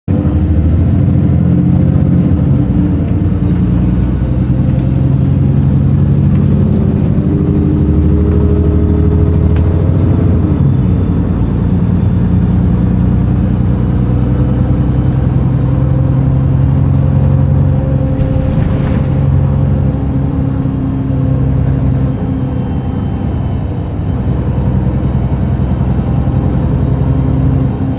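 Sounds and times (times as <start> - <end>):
bus engine grumbling: 0.1 - 27.9.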